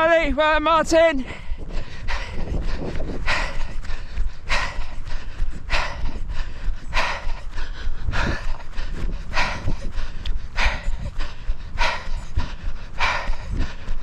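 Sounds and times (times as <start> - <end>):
runner breathing hard: 1.1 - 14.0
low rumble: 1.4 - 14.0.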